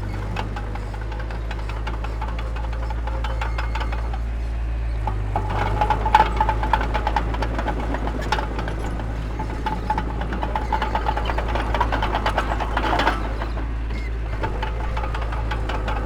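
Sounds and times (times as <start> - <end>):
heavy machinery droning: 0.0 - 16.0
rattling and clanking: 0.0 - 16.0.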